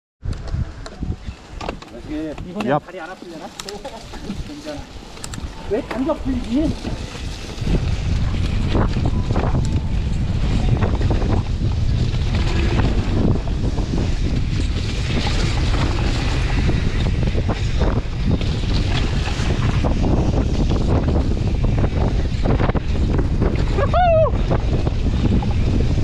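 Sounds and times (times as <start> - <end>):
wind buffeting microphone: 0.2 - 26.0.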